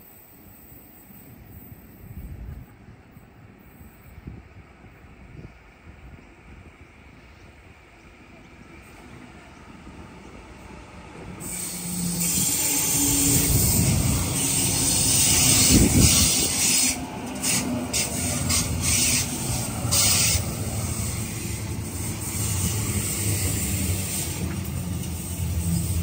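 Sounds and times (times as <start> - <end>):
electric train passing: 0.0 - 26.0
train wheels rumbling on rails: 1.3 - 26.0.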